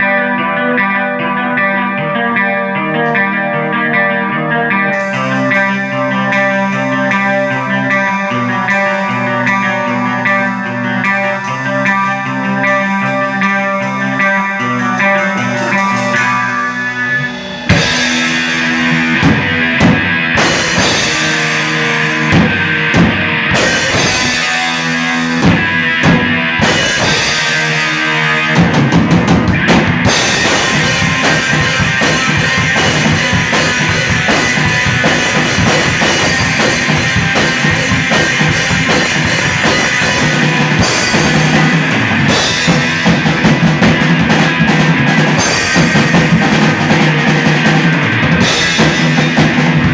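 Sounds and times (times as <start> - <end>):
electric guitar: 0.0 - 49.9
rock band playing live: 0.0 - 49.9
drum kit: 4.8 - 49.9.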